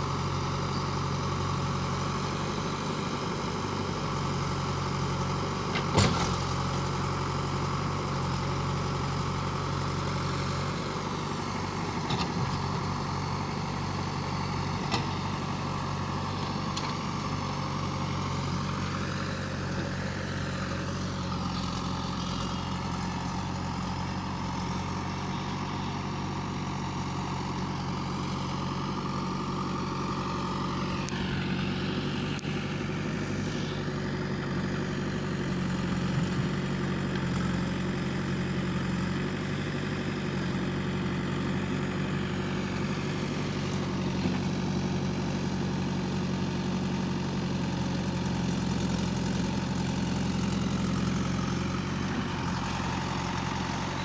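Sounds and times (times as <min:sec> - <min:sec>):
backhoe diesel engine: 0:00.0 - 0:54.0
tractor idling: 0:00.0 - 0:54.0.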